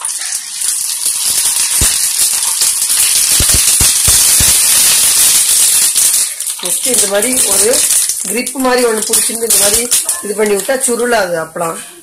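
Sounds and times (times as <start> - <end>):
crisp sizzling in hot oil: 0.0 - 11.3.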